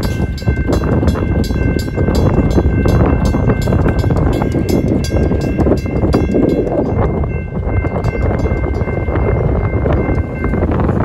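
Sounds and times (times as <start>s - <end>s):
mechanical crossing bell striking: 0.0s - 10.8s
freight train rumbling past: 0.0s - 11.0s.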